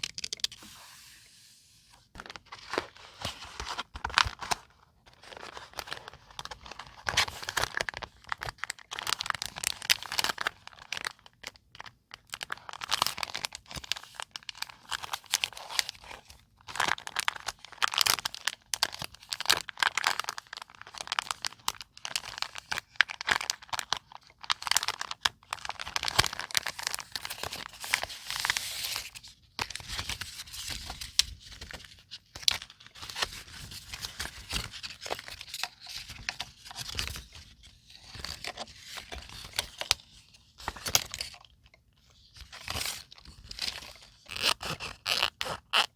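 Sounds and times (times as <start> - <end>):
paper rustling and crinkling: 0.0 - 11.2, 12.4 - 45.3.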